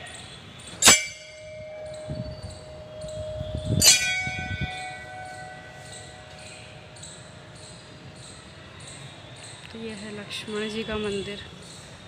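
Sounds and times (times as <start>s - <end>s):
temple bell ringing: 0.0s - 11.4s.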